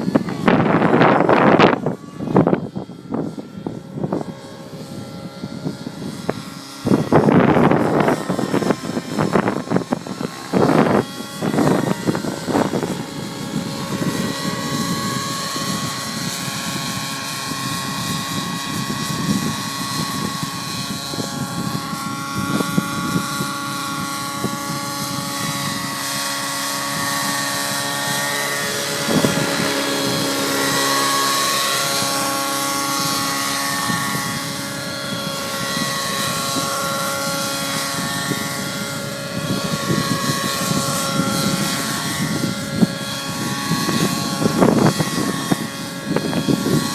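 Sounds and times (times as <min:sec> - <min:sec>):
rc helicopter engine whine: 0:00.0 - 0:46.9
wind buffeting microphone: 0:00.0 - 0:46.9.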